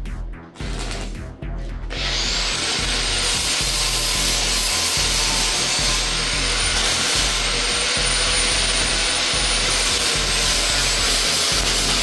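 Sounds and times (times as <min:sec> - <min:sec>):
arc welding hiss and crackle: 0:00.6 - 0:01.1, 0:02.2 - 0:12.0.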